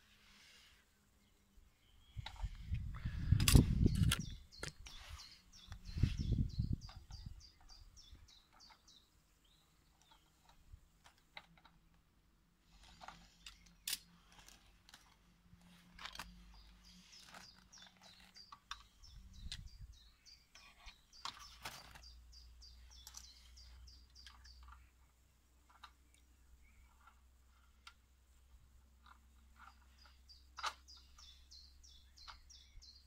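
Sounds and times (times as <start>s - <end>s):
small bird chirping: 1.2s - 11.2s, 12.7s - 33.0s.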